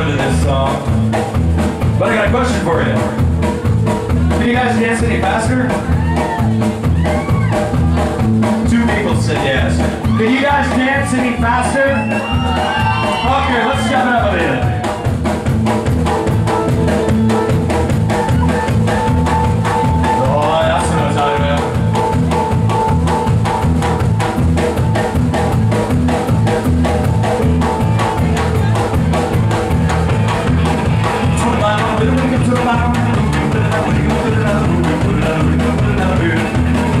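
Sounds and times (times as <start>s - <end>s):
drum kit fast beat: 0.0s - 37.0s
live rock band playing: 0.0s - 37.0s.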